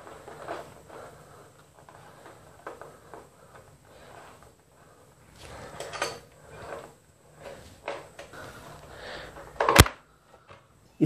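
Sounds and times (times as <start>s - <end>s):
wires scraping and rustling: 0.0s - 10.6s.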